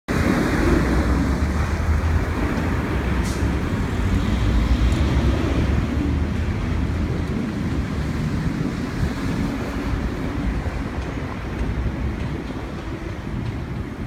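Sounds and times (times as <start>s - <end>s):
road traffic rumble: 0.1s - 14.0s.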